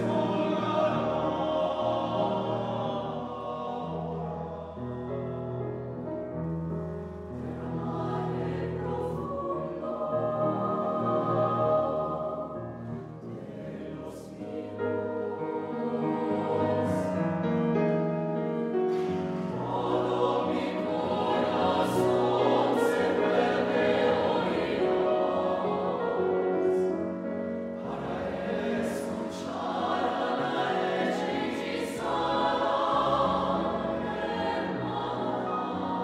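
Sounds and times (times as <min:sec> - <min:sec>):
mixed choir singing: 0:00.0 - 0:05.4, 0:07.2 - 0:17.8, 0:18.7 - 0:36.0.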